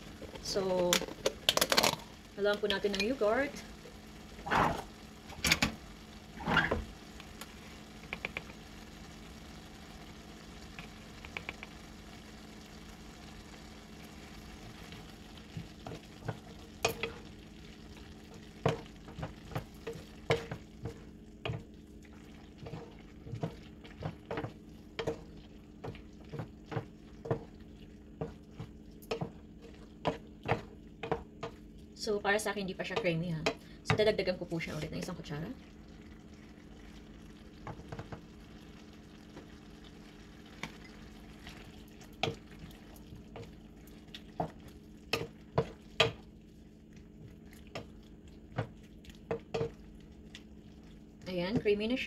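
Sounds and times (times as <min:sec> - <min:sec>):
low sizzle from pan: 0:00.0 - 0:52.0.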